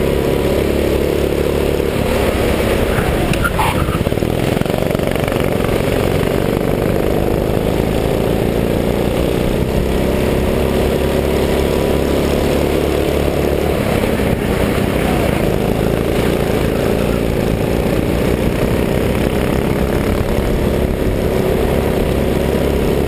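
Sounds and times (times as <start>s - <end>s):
go-kart engine running: 0.0s - 23.0s
passing go-kart: 0.0s - 23.0s.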